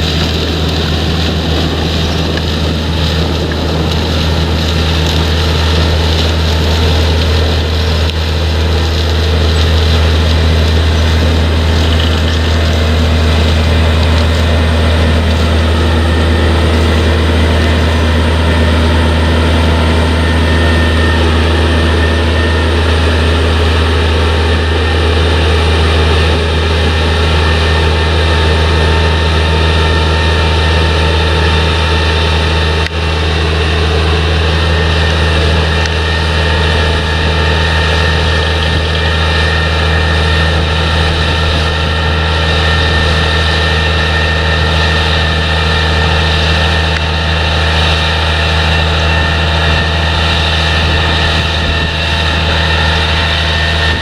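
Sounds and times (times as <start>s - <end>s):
diesel machinery low drone: 0.0s - 54.0s
machinery whines: 0.0s - 54.0s.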